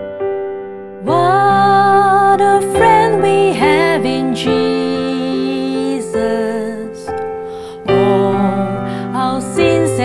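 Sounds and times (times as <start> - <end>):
electric keyboard accompaniment: 0.0 - 10.0
woman singing worship song: 1.0 - 10.0.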